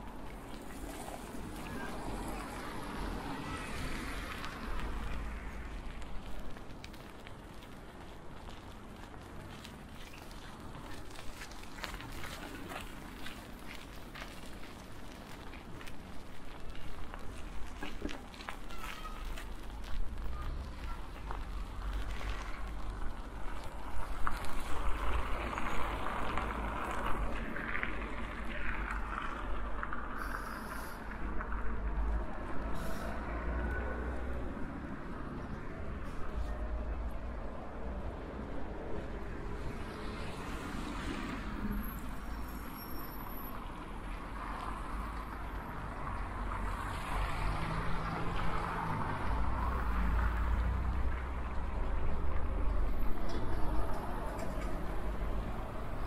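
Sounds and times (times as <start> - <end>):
bicycle tyres hissing on road: 0.1 - 34.8, 39.4 - 52.0.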